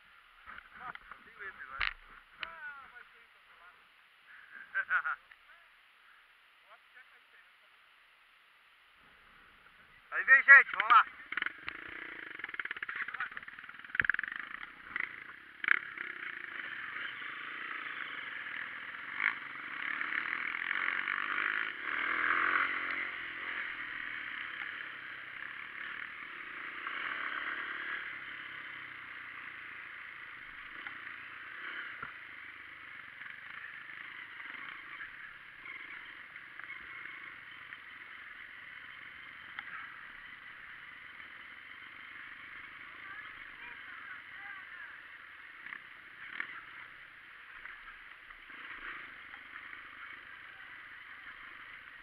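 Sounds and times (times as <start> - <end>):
dirt bike engine running: 8.9 - 52.0.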